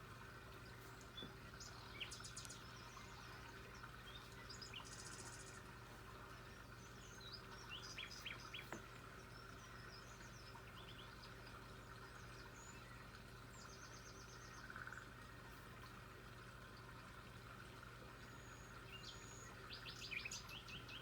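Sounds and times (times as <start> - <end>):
faint birdsong chirps: 0.0 - 21.0
low background hum: 0.0 - 21.0.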